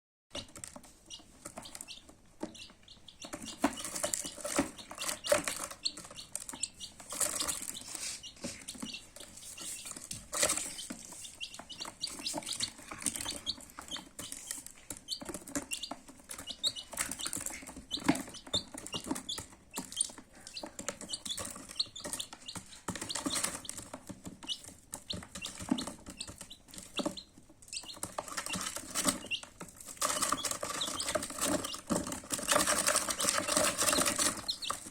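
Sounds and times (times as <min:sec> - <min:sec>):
baby chicks peeping: 0:00.3 - 0:34.9
knocks and scratching: 0:00.3 - 0:34.9.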